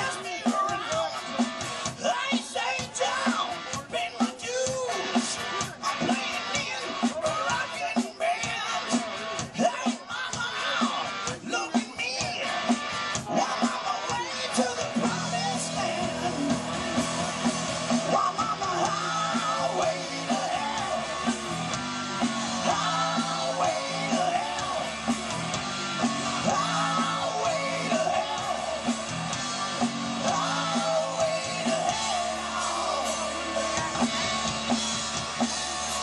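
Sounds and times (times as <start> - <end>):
man singing: 0.0 - 17.0, 17.9 - 25.2, 26.4 - 34.4
drums: 0.0 - 36.0
electric guitars: 0.0 - 36.0.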